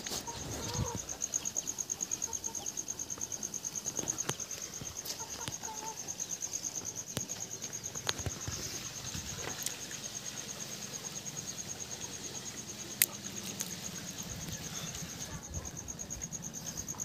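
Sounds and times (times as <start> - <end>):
insect chirping trill: 0.0 - 17.0.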